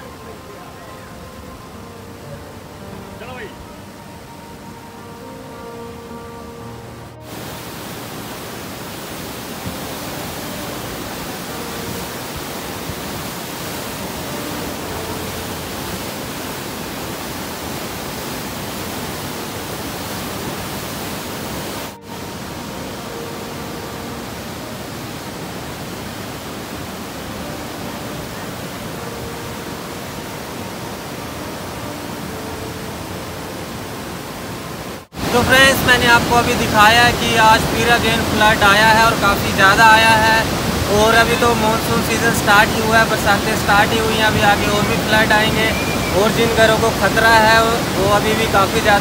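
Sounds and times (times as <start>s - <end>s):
river rushing in flood: 0.0s - 49.0s.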